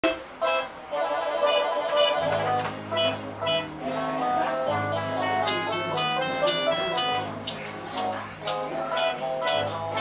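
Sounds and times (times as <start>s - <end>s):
melody of short pitched notes: 0.0s - 10.0s.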